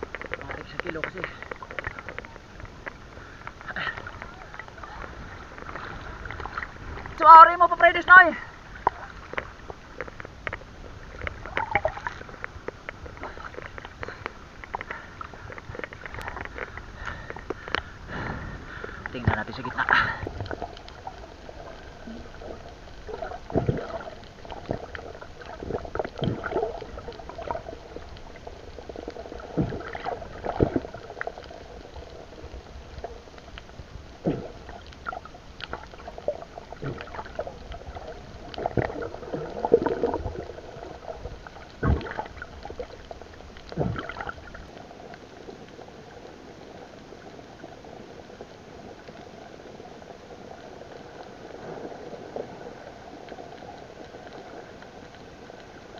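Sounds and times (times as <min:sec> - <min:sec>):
underwater water sloshing: 0:00.0 - 0:55.9.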